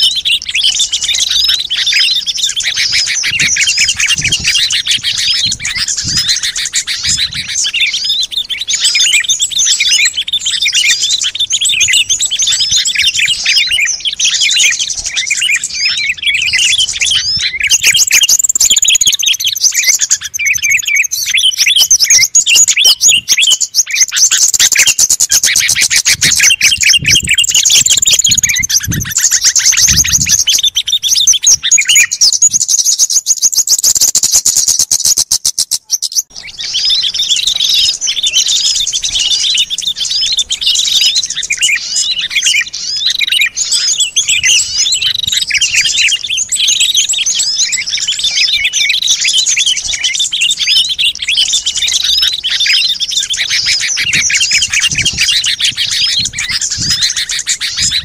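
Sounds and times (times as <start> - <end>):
high thin bird calls: 0.0 - 58.0
songbirds chirping and trilling: 0.0 - 58.0.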